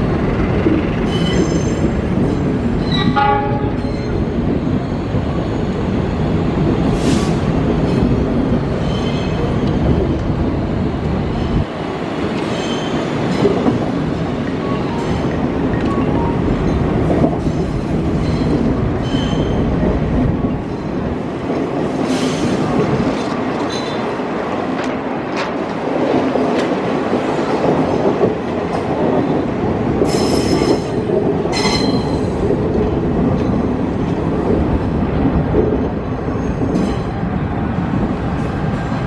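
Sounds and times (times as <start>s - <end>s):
train wheels rumbling and rattling: 0.0s - 39.0s.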